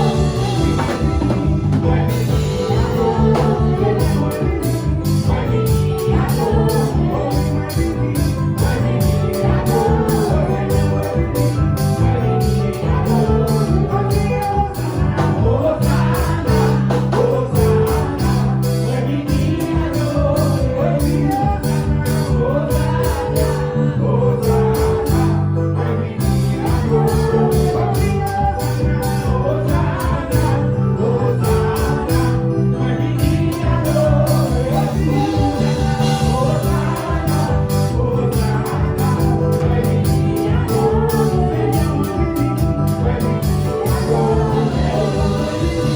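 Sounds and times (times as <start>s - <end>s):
gospel band with bass and beat: 0.0s - 45.9s
lead voice singing: 0.0s - 45.9s.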